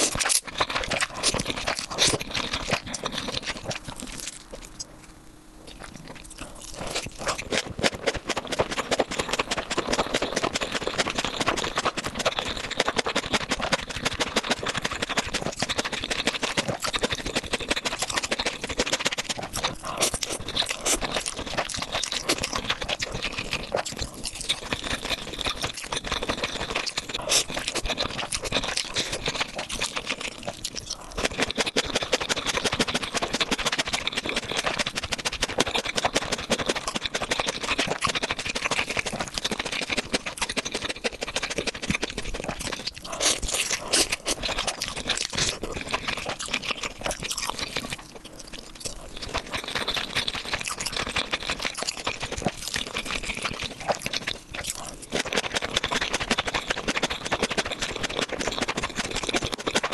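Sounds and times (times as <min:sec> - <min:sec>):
chewing noodles: 0:00.0 - 0:59.9.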